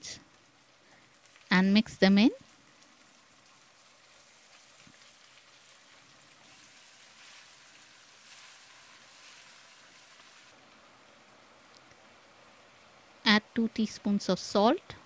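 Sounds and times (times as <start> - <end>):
meat and onions sizzling: 0.2 - 13.3.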